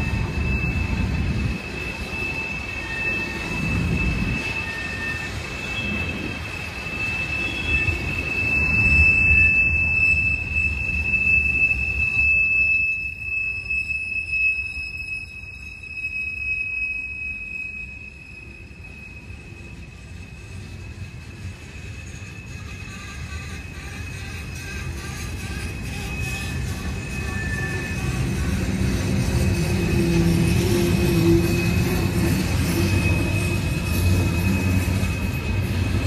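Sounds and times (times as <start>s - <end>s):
low rumble of train cars: 0.0s - 36.0s
train wheels squealing: 0.0s - 36.0s.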